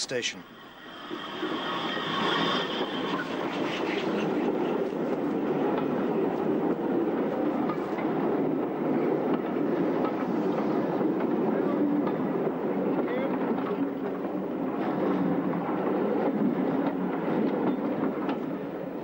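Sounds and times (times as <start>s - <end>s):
train coaches rumbling: 0.0s - 19.0s.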